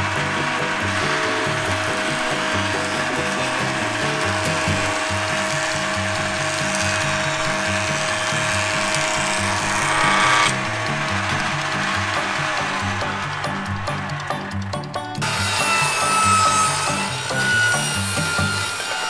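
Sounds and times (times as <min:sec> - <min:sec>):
planer cutting wood board: 0:00.0 - 0:13.6, 0:15.2 - 0:19.0
planer motor whine: 0:00.0 - 0:14.3, 0:15.2 - 0:19.0
country background music: 0:00.0 - 0:19.0.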